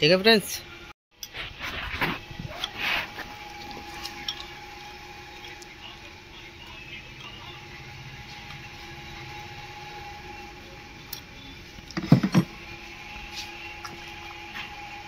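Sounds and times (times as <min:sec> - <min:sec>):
faint hum: 0:00.6 - 0:15.0.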